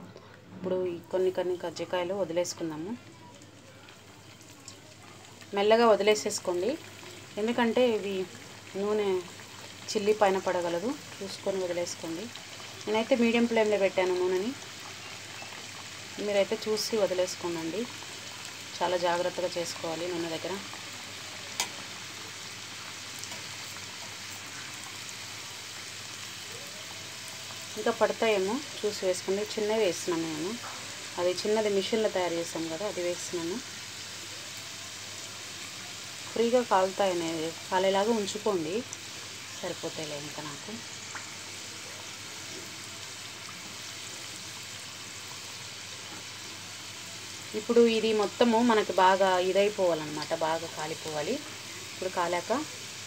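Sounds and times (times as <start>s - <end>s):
dumplings sizzling in oil: 0.0s - 53.0s.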